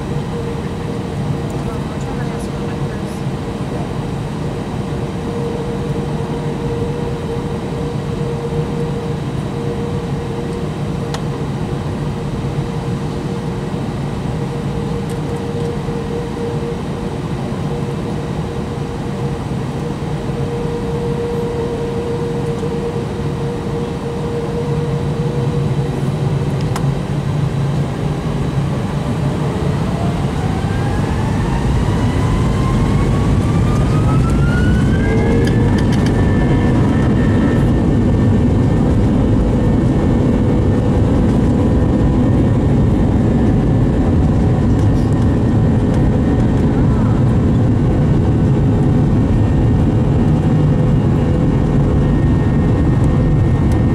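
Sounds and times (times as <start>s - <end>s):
jet engine spooling up: 0.0s - 53.9s.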